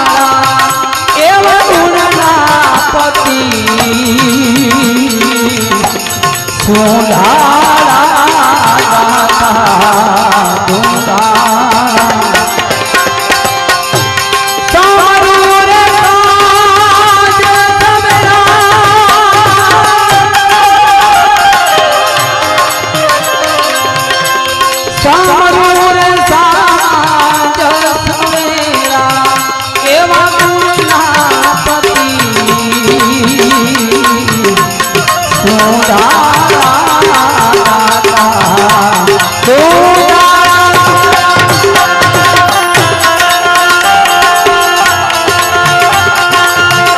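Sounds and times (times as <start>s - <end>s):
man singing: 0.0s - 13.2s, 14.7s - 46.9s
harmonium: 0.0s - 46.9s
tabla: 0.0s - 46.9s.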